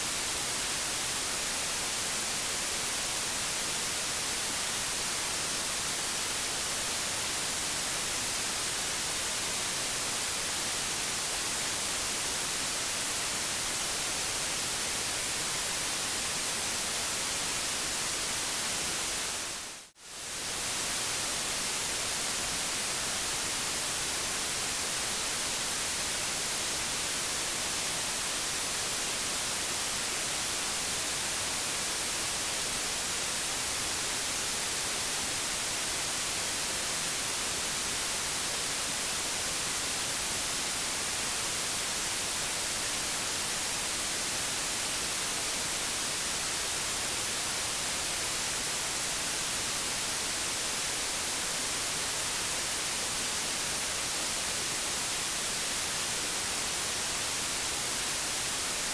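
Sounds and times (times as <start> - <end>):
television static hiss: 0.0 - 58.9.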